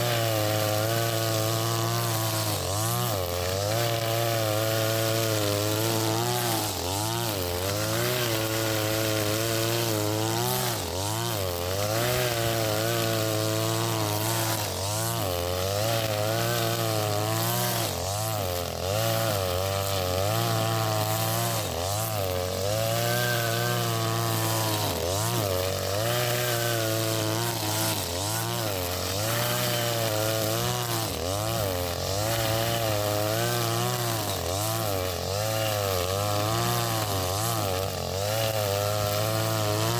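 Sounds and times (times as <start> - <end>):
brush cutter engine running: 0.0 - 39.9
line cutting grass: 0.0 - 39.9.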